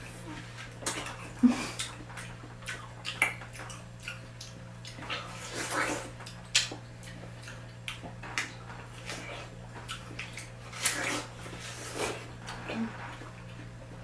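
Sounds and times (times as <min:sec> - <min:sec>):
steady low hum: 0:00.0 - 0:14.0
watermelon being bitten and chewed: 0:00.0 - 0:14.0.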